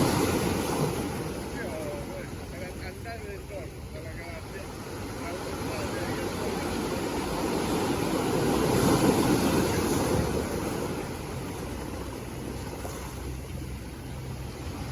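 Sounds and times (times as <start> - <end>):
low engine hum: 0.0 - 14.9
sea water rushing: 0.0 - 14.9
wind: 0.0 - 14.9.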